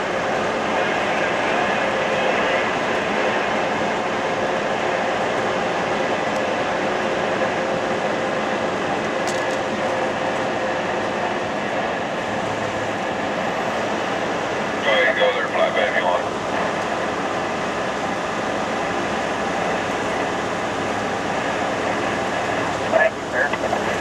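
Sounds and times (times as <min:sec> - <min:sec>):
truck cab road and engine noise: 0:00.0 - 0:24.0.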